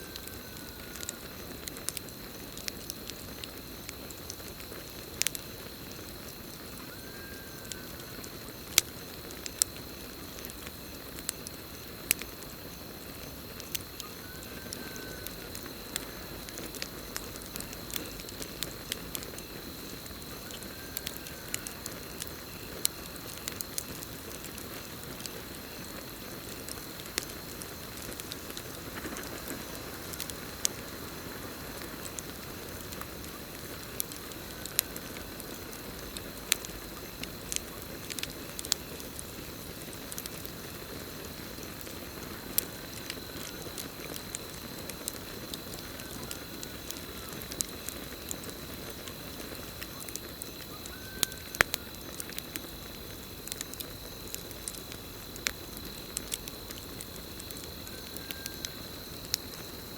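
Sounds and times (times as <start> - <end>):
campfire crackling and popping: 0.0 - 59.9
crickets trilling: 0.0 - 59.9.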